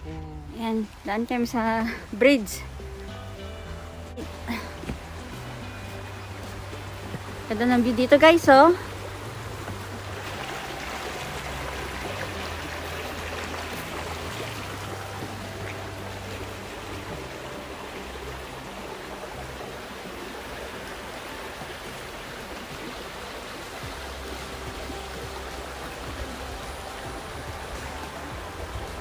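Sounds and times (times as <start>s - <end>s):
creek water over rocks: 0.0s - 29.0s.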